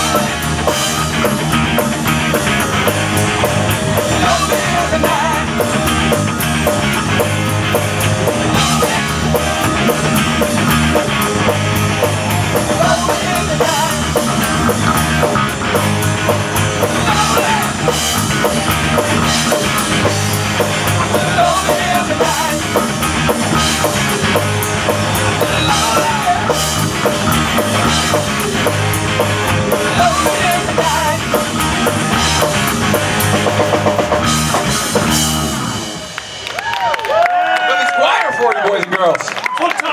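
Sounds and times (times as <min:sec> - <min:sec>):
drum kit beat: 0:00.0 - 0:37.7
electric guitar: 0:00.0 - 0:37.7.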